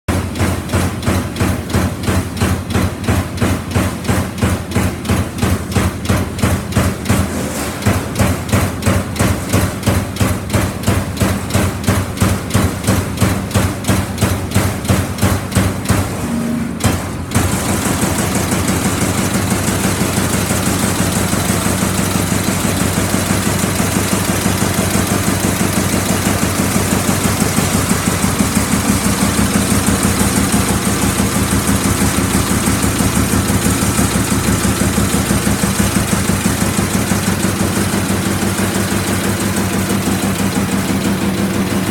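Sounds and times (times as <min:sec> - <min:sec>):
machine running hum: 0:00.1 - 0:41.9
punch press punching sheet metal: 0:00.1 - 0:41.9.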